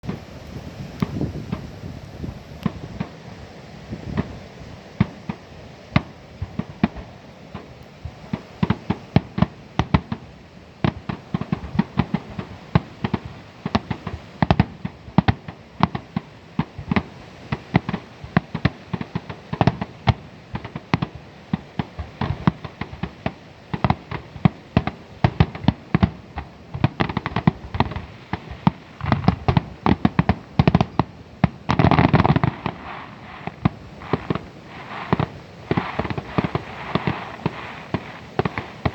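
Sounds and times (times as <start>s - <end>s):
fireworks bursts and bangs: 0.0s - 38.9s.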